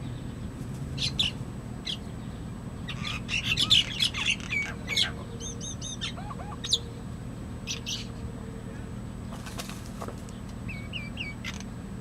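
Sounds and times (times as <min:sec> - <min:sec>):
birds chirping rapidly: 0:00.0 - 0:07.0, 0:07.6 - 0:11.8.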